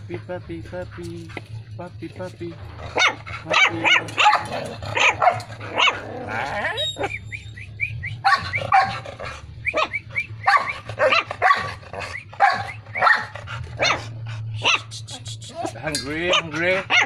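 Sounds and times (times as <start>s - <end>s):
puppies barking and yipping: 0.0s - 17.0s.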